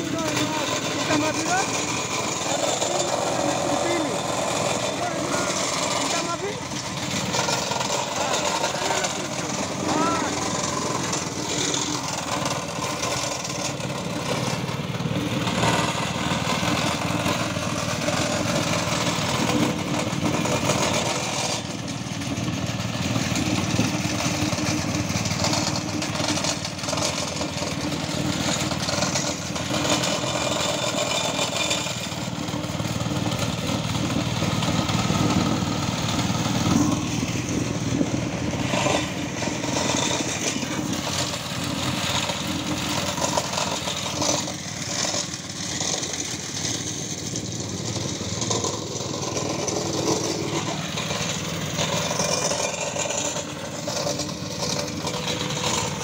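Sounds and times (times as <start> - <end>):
plate compactor engine running: 0.0 - 56.0.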